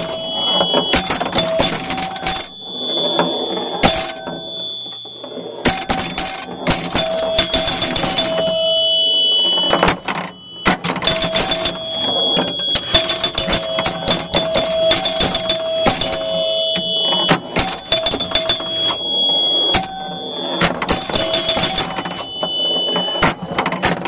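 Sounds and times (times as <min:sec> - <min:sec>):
pinball bells ringing: 0:00.0 - 0:24.0.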